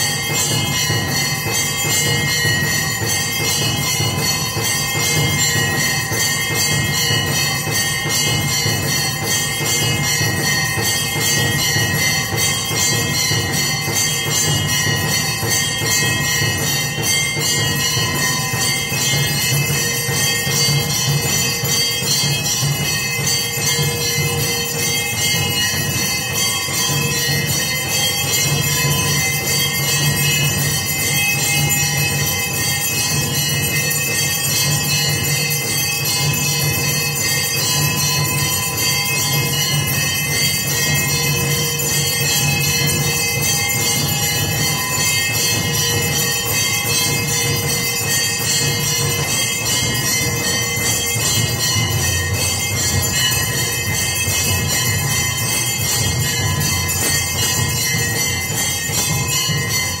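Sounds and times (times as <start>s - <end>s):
temple bells and percussion ringing: 0.0s - 60.0s.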